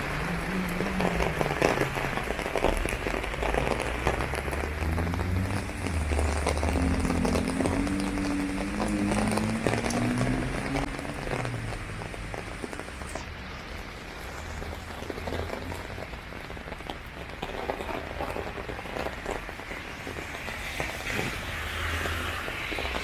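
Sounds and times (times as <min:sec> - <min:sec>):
rain drops tapping on umbrella: 0:00.0 - 0:23.0.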